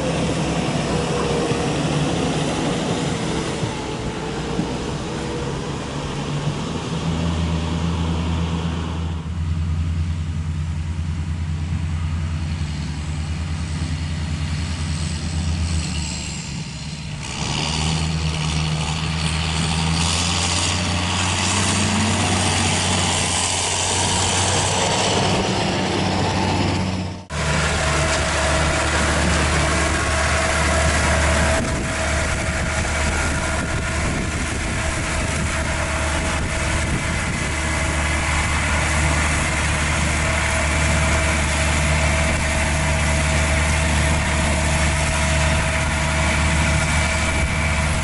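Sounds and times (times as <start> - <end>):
harvester engine running: 0.0 - 48.0
tractor diesel engine droning: 0.0 - 48.0.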